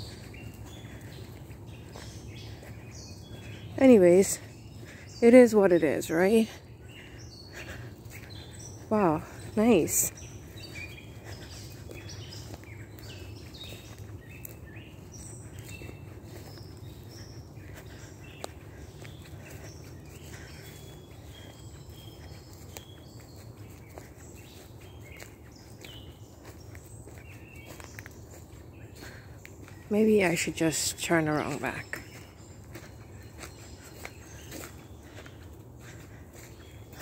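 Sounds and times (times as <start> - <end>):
footsteps on leafy dirt trail: 0.0 - 37.0
small birds chirping: 0.0 - 37.0.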